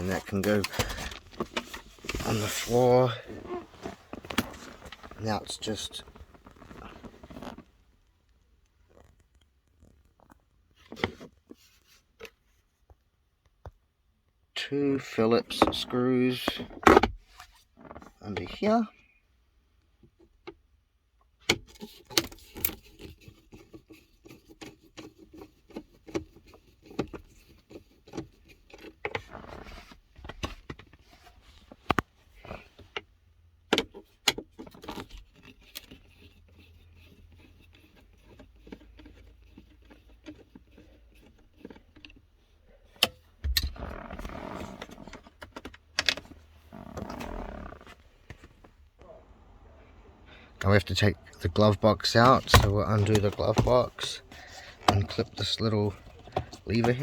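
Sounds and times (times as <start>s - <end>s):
rustling and scraping: 0.0s - 12.9s, 21.8s - 33.2s, 33.8s - 57.0s.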